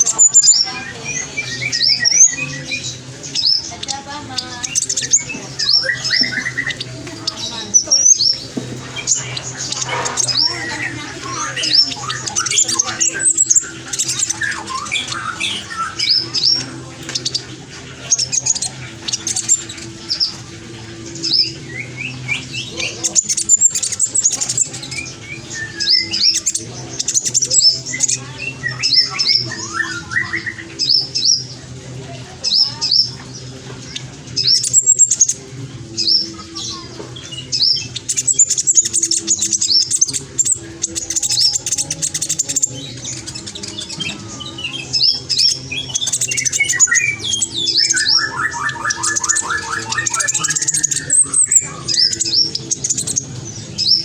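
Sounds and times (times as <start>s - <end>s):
fast bird trill: 0.0s - 31.6s, 32.2s - 54.0s
bird singing high chirps: 0.0s - 54.0s
other birds calling: 0.0s - 54.0s.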